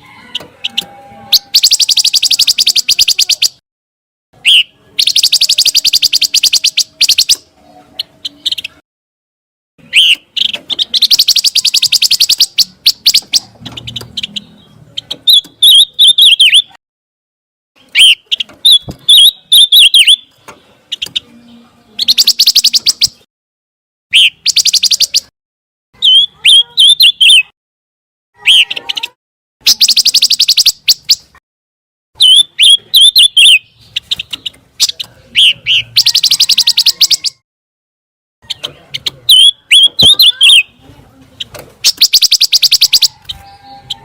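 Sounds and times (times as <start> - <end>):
songbird trilling and whistling: 0.3 - 3.6, 4.4 - 8.8, 9.8 - 16.8, 17.8 - 23.3, 24.1 - 25.3, 26.0 - 27.5, 28.4 - 31.4, 32.2 - 37.4, 38.4 - 40.8, 41.8 - 44.0.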